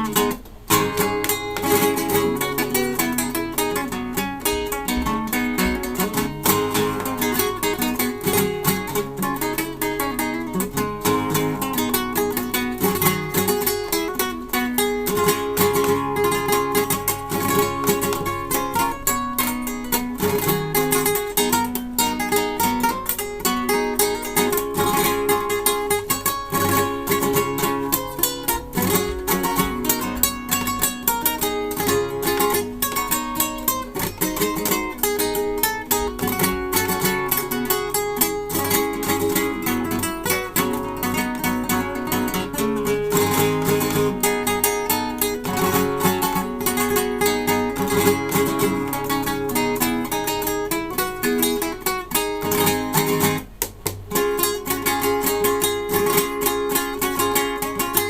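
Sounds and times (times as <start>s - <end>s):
classical guitar plucking: 0.0s - 58.0s.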